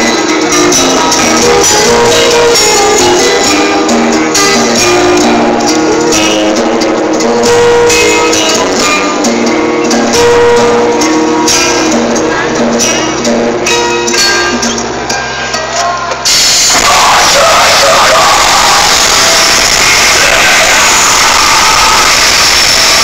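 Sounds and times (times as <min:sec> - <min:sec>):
live heavy metal band: 0:00.0 - 0:23.0.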